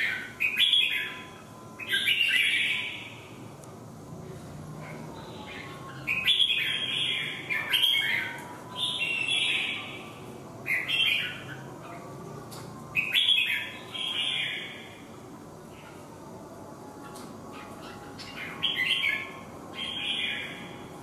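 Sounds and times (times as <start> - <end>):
bulbuls singing: 0.0 - 3.4, 4.8 - 16.1, 16.9 - 21.0.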